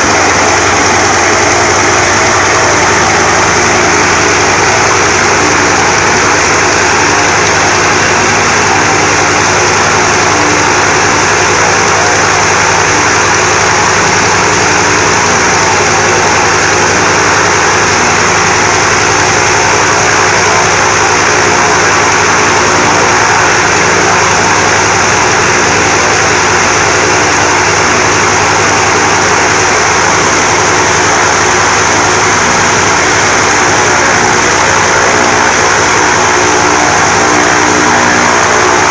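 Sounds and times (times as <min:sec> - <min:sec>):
radial engine and propeller running: 0:00.0 - 0:38.9.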